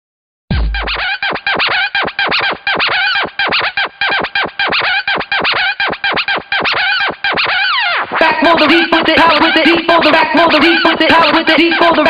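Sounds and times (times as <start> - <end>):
intro music: 0.5 - 12.0
scratched stuttering sample: 0.5 - 12.0.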